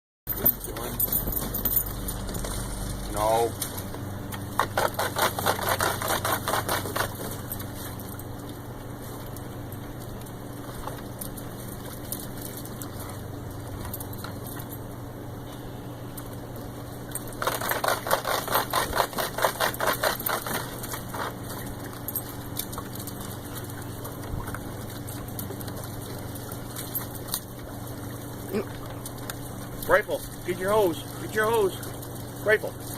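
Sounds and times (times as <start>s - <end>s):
steady low hum: 0.3s - 32.9s.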